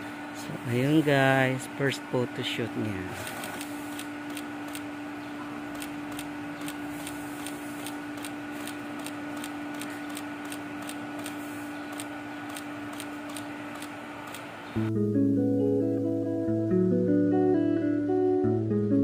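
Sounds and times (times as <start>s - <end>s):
steady hum: 0.0s - 15.5s.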